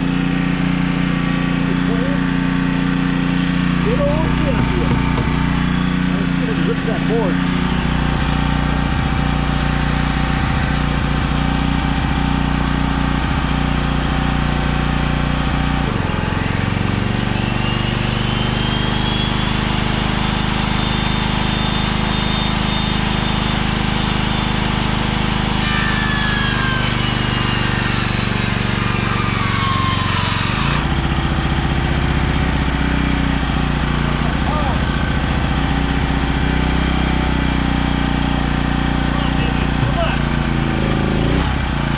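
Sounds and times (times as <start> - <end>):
portable generator running: 0.0 - 28.1, 30.5 - 41.9
table saw motor whine: 0.0 - 41.9.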